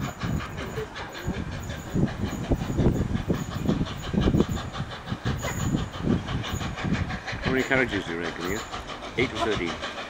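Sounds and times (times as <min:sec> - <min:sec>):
steam hiss: 0:00.0 - 0:10.0
steam locomotive exhaust beats: 0:00.0 - 0:10.0
train coaches clattering: 0:00.0 - 0:10.0.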